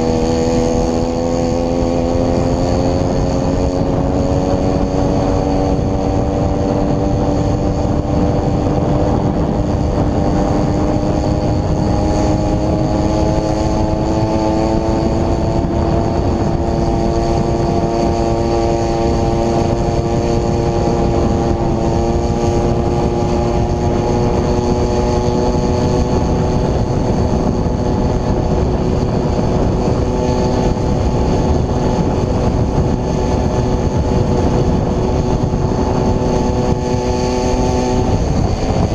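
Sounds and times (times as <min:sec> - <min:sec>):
steady rush of noise: 0:00.0 - 0:38.9
two-stroke engine at high revs: 0:00.0 - 0:38.9.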